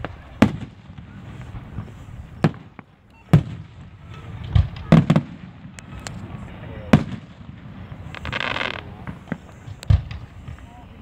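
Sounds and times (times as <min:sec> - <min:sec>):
fireworks booming: 0:00.0 - 0:10.9.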